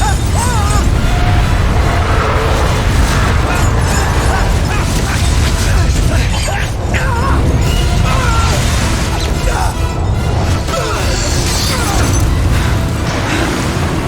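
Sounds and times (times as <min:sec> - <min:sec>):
voices crying out: 0:00.0 - 0:12.3
deep avalanche rumble: 0:00.0 - 0:14.0
dramatic orchestral music: 0:00.0 - 0:14.0.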